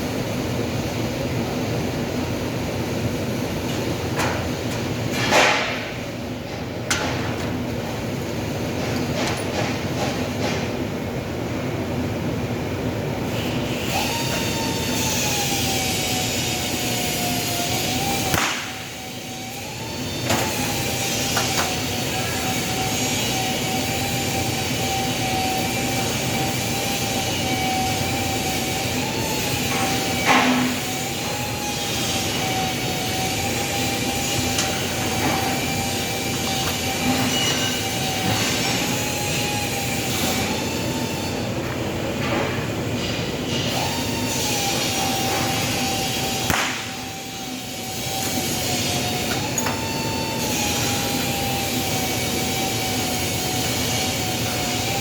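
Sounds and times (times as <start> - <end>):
machine noise with high whine: 0.0 - 55.0.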